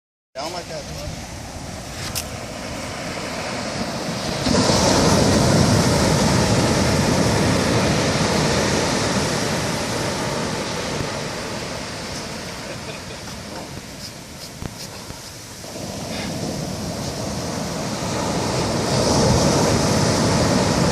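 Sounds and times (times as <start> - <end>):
ocean wave crashing: 0.4 - 20.9.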